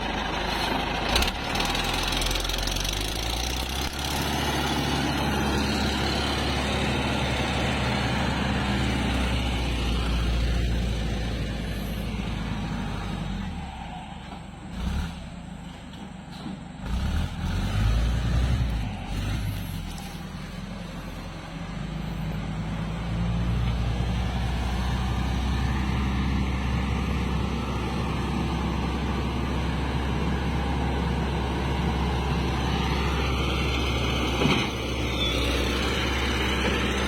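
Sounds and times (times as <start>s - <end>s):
diesel engine rumbling: 0.0s - 37.0s.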